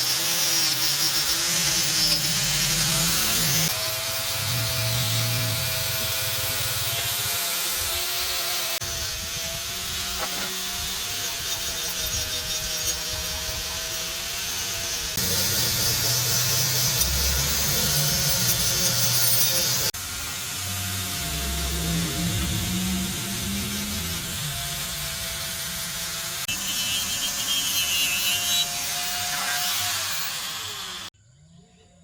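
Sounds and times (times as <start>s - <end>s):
rasping rubbing noise: 0.0s - 30.6s
small power tool running: 0.0s - 31.2s.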